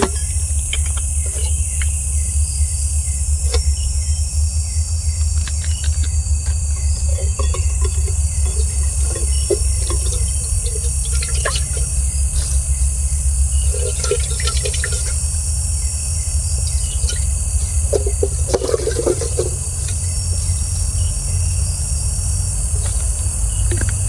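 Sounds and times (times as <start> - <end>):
insect trilling: 0.0 - 24.0
water heating in a pot: 0.0 - 24.0.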